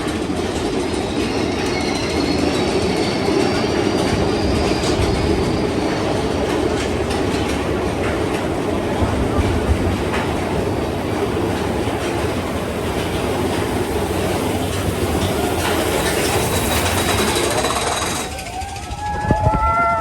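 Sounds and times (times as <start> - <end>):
roller coaster rumbling and clattering: 0.0 - 20.0.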